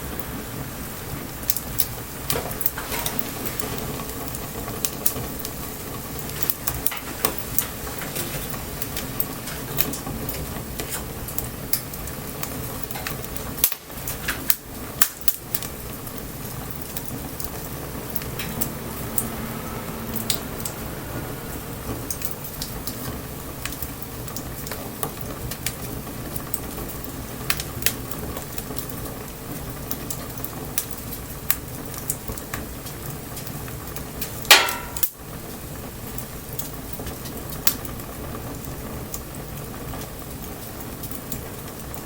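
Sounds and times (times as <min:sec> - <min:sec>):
bonfire crackling and popping: 0:00.1 - 0:42.0.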